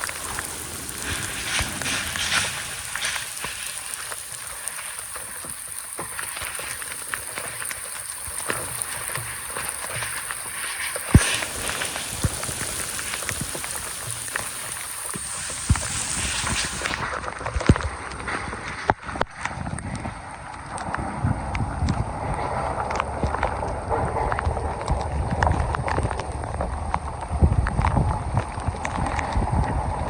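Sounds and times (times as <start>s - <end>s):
water pattering on a surface: 0.0s - 30.0s.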